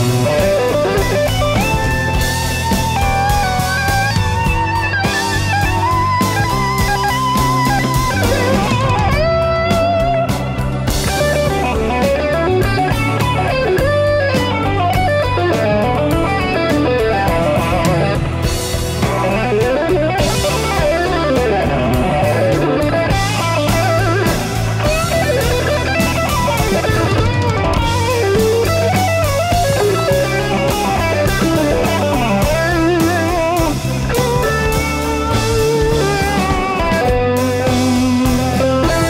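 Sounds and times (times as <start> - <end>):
drum kit: 0.0 - 39.0
electric bass: 0.0 - 39.0
electric guitar melody: 0.0 - 39.0.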